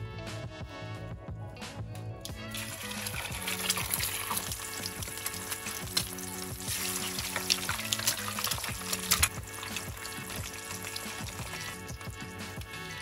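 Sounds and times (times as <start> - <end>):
oil crackling and popping: 2.2 - 13.0
eggs sizzling in hot oil: 2.3 - 13.0.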